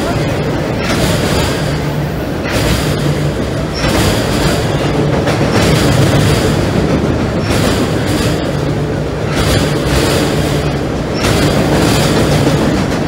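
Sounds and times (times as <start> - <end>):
train rumbling over bridge: 0.0 - 13.0
wheel and rail clatter: 0.0 - 13.0.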